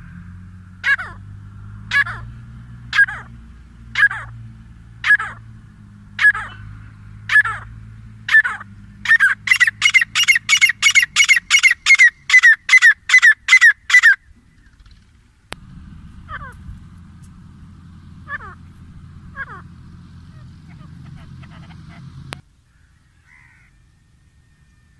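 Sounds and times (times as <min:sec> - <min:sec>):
francolins calling: 0:00.7 - 0:15.2, 0:15.9 - 0:24.9.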